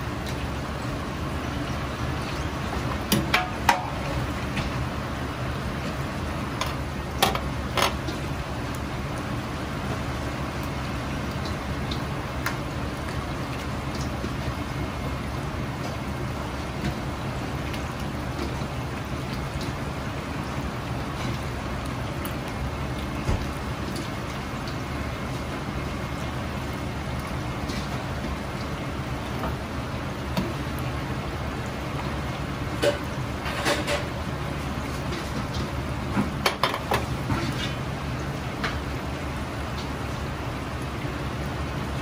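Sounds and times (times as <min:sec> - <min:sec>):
oil sizzling and bubbling: 0:00.0 - 0:42.0.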